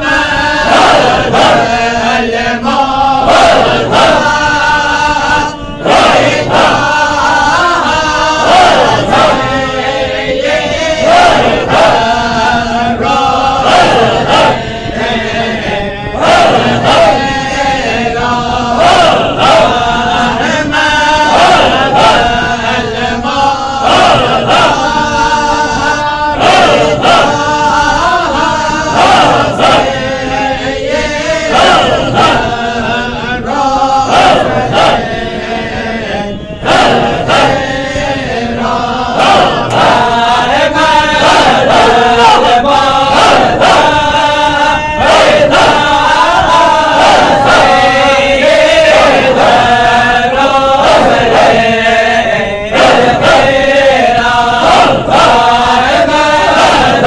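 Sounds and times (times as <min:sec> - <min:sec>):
men chanting together: 0:00.0 - 0:57.0.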